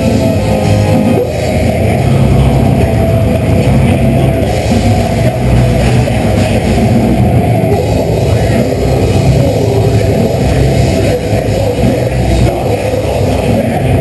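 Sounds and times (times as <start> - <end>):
distorted electric guitars: 0.0 - 14.0
drum kit: 0.0 - 14.0.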